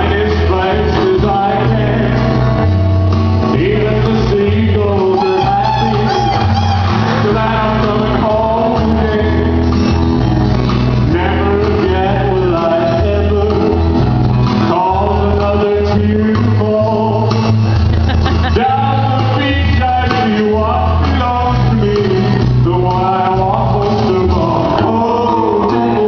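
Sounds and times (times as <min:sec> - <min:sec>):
man singing: 0:00.0 - 0:02.6, 0:03.4 - 0:09.8, 0:11.0 - 0:26.0
acoustic and electric guitars: 0:00.0 - 0:26.0
bass notes: 0:00.0 - 0:26.0.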